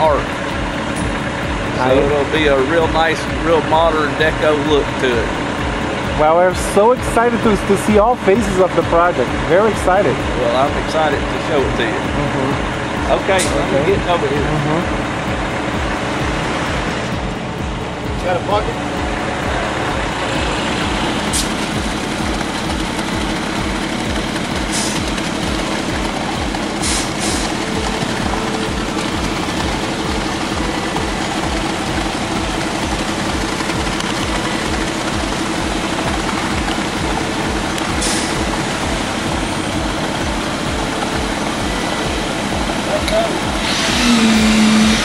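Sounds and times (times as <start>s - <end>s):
large engine throbbing: 0.0s - 45.0s.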